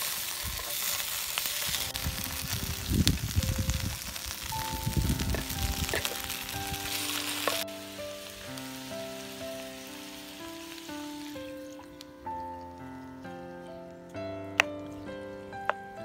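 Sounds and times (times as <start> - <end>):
food sizzling in a pan: 0.0 - 13.2
slow background music: 0.8 - 16.0.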